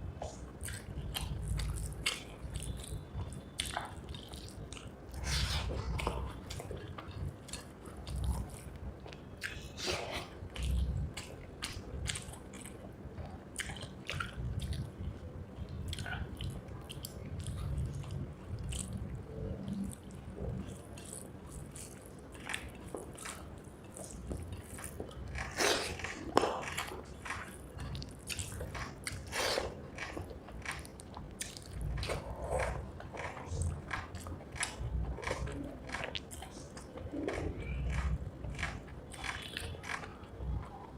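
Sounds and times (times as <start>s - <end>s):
person chewing food: 0.2s - 40.9s.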